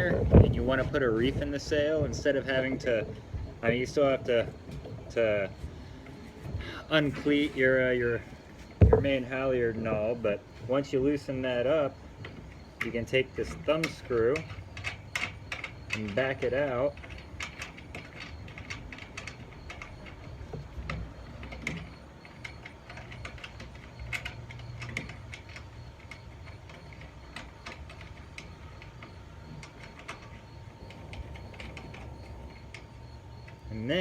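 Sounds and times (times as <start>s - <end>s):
small metal clicks and ticks: 0.0s - 34.0s.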